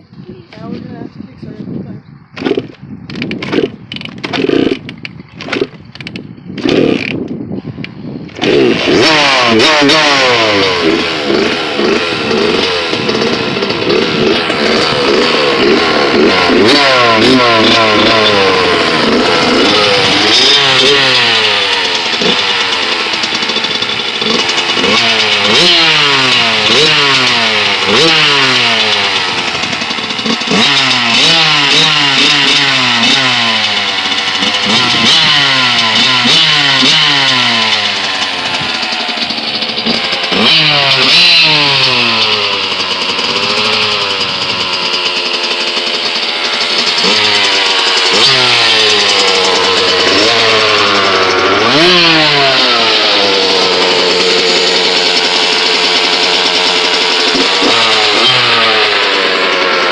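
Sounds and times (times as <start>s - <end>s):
two-stroke engine revving: 2.4s - 59.9s.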